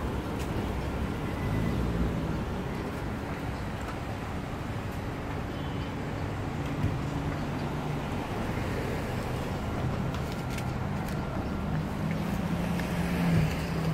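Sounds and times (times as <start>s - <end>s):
street traffic noise: 0.0s - 13.9s
vehicle engine humming: 0.0s - 13.9s.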